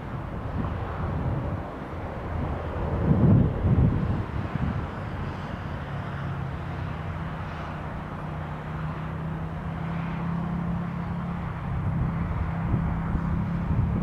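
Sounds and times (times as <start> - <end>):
steady engine-like hum: 0.0 - 14.0
wind buffeting microphone: 0.0 - 14.0.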